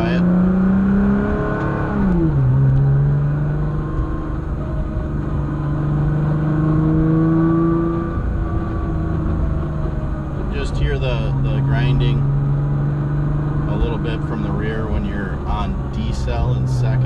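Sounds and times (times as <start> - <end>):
car engine revving through upshift: 0.0 - 17.0.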